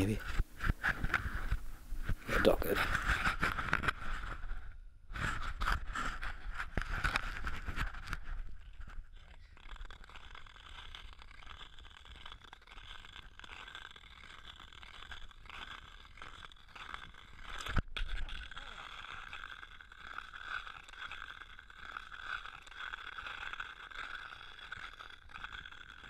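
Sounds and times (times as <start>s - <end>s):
ice skate blades scraping ice: 0.0s - 26.0s.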